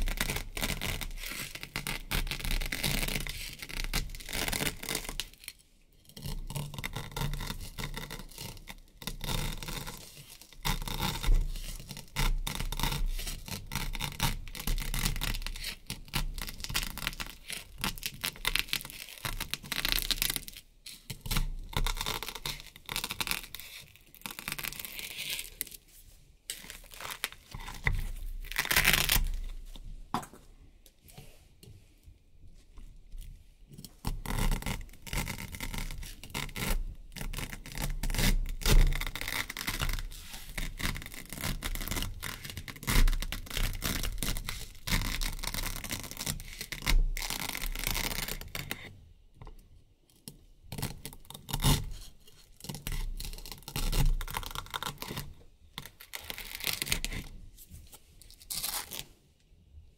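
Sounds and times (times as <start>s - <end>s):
knife cutting through velcro: 0.0s - 25.8s, 26.5s - 29.6s, 33.8s - 48.9s, 50.7s - 57.3s, 58.2s - 59.1s.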